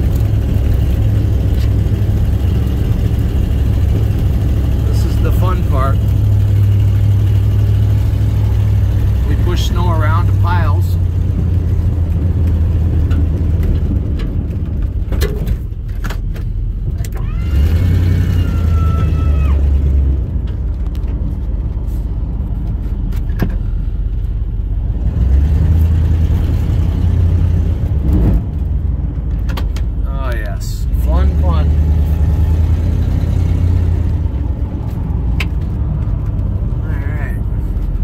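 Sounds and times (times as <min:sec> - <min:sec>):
truck engine drone: 0:00.0 - 0:38.0.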